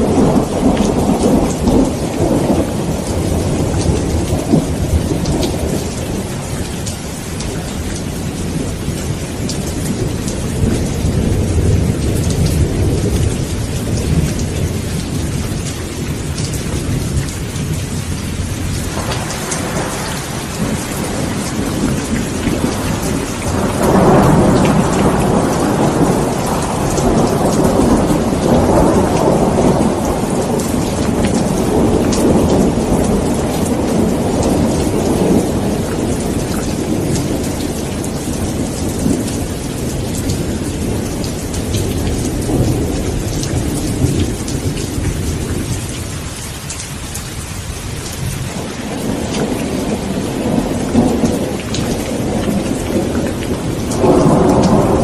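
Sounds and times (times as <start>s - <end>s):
rolling thunder: 0.0s - 55.0s
steady rain: 0.0s - 55.0s.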